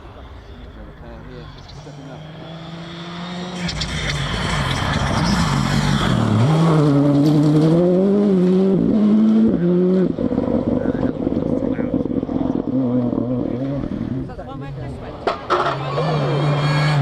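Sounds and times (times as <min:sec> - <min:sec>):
rally car engine accelerating: 0:01.4 - 0:17.0.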